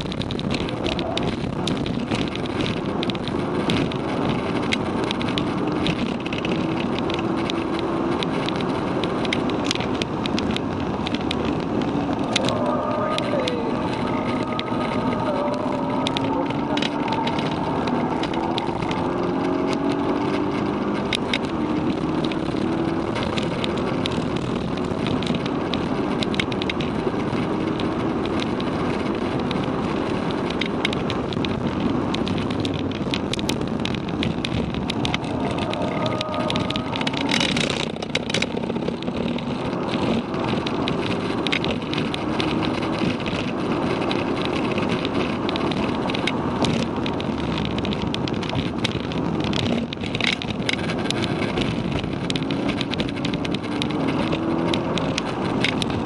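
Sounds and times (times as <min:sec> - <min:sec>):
car engine accelerating hard: 0:00.0 - 0:56.0
tyre road and wind noise: 0:00.0 - 0:56.0.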